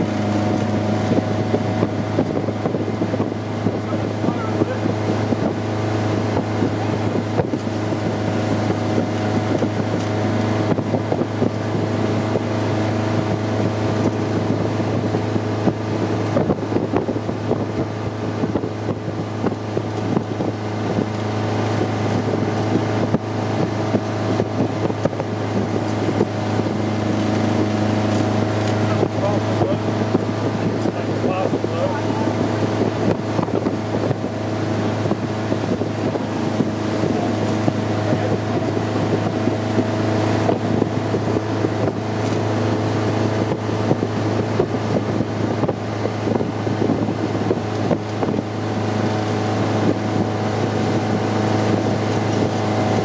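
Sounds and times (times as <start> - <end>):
boat engine running: 0.0 - 53.0
water rushing beneath boat: 0.0 - 53.0
wind on microphone: 0.0 - 53.0.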